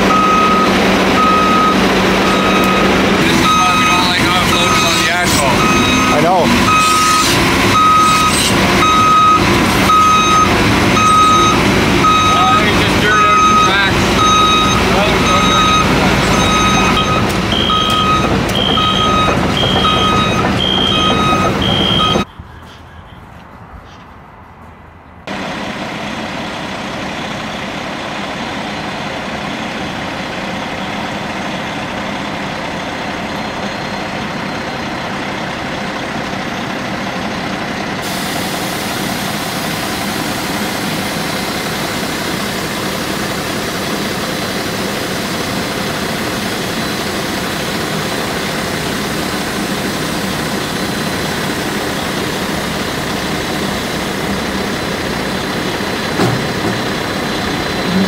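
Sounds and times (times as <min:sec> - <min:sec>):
truck diesel engine running: 0:00.0 - 0:22.6, 0:25.2 - 0:58.0.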